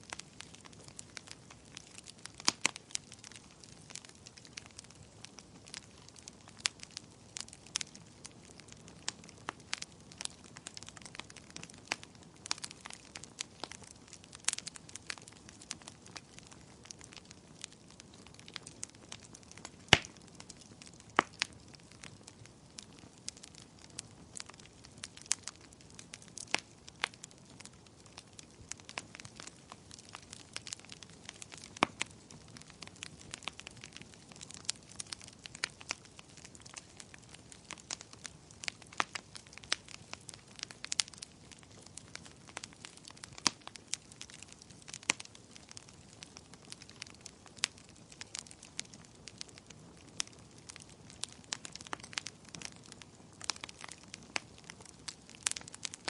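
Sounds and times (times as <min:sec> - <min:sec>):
faint steady hiss: 0:00.0 - 0:56.0
wood fire crackling and popping: 0:00.0 - 0:56.0.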